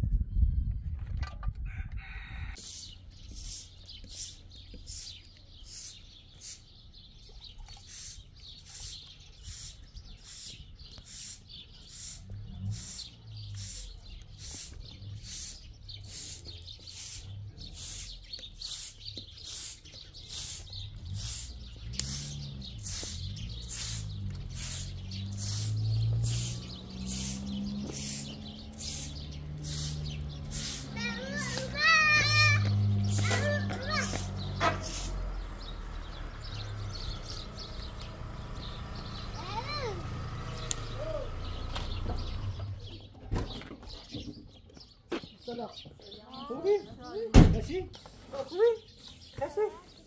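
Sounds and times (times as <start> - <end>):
bird chirping: 2.2 - 50.0.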